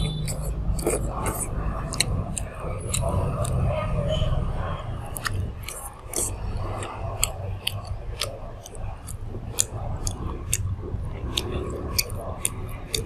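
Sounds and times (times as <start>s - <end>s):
mouth smacks: 0.0s - 13.0s
steady low hum: 0.0s - 13.0s
wet chewing: 0.0s - 13.0s.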